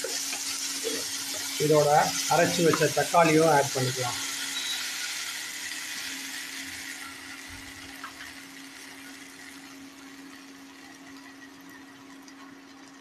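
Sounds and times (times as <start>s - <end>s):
induction cooktop hum: 0.0s - 13.0s
onions sizzling in oil: 0.0s - 13.0s.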